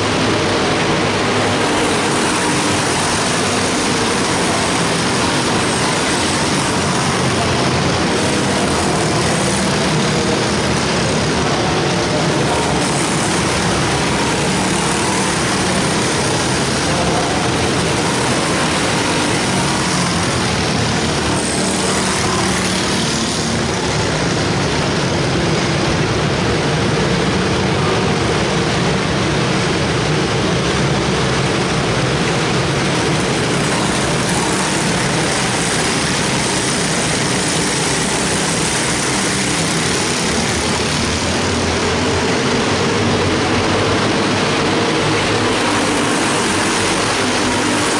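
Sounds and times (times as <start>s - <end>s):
race car engines droning: 0.0s - 47.9s.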